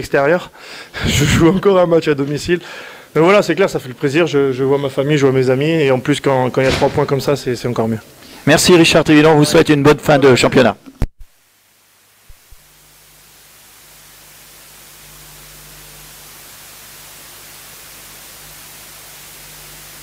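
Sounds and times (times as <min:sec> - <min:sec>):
low electrical hum: 0:00.0 - 0:20.0
recording hiss: 0:00.0 - 0:20.0.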